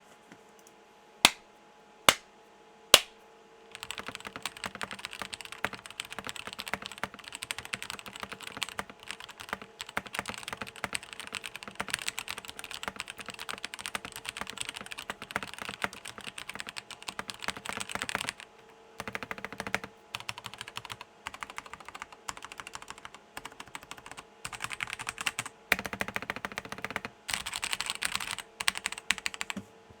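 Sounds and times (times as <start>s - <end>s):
mechanical keyboard typing: 3.8s - 29.6s.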